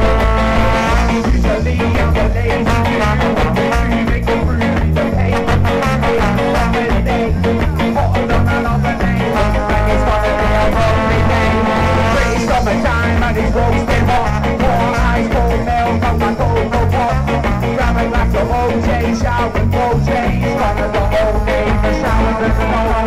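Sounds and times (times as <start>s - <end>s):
band chords: 0.0s - 23.0s
bass line: 0.0s - 23.0s
drums keeping a beat: 0.0s - 23.0s.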